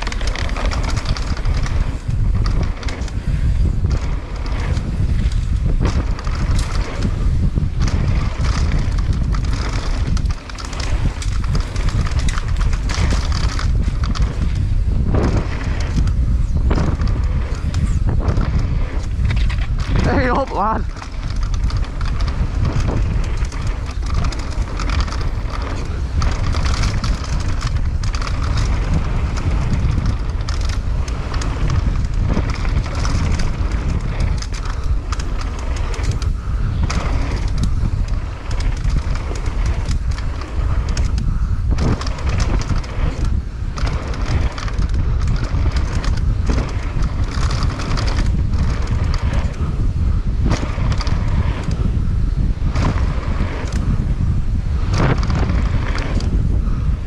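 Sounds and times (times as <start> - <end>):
bike knocks and rattles: 0.0 - 57.0
wind buffeting microphone: 0.0 - 57.0.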